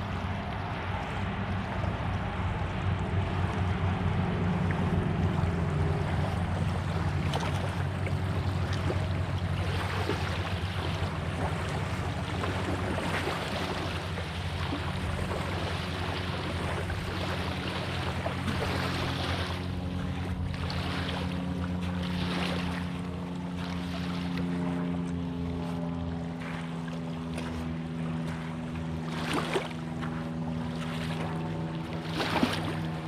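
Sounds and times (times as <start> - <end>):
small waves lapping: 0.0 - 33.0
steady low hum: 0.0 - 33.0.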